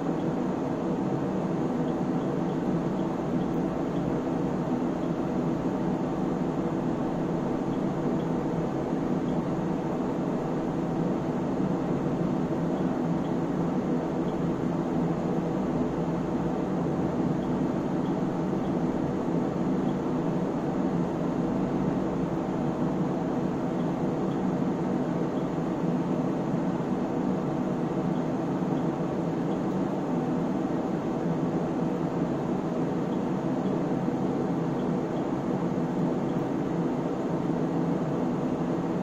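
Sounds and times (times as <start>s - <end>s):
cooling fans whirring: 0.0s - 39.0s.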